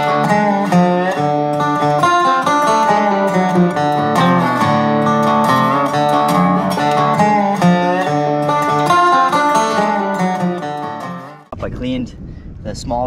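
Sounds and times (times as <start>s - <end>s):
acoustic guitar playing: 0.0s - 11.5s.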